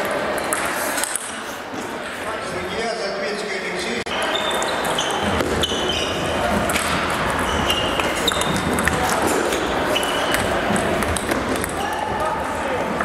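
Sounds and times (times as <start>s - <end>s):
hall chatter: 0.0s - 13.0s.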